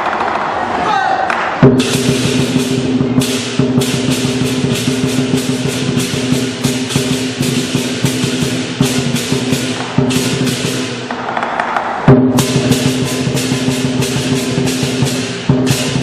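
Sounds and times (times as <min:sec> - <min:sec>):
cymbals clashing: 0:01.6 - 0:11.2, 0:12.0 - 0:16.0
big drum beating: 0:01.6 - 0:16.0.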